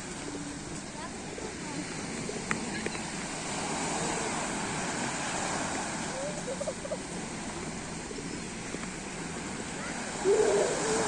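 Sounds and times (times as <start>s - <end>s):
surf washing onto shore: 0.0s - 11.0s.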